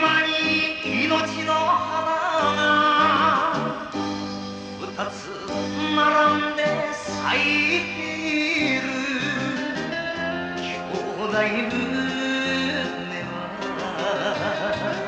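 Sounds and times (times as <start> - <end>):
enka music over sound system: 0.0 - 15.0.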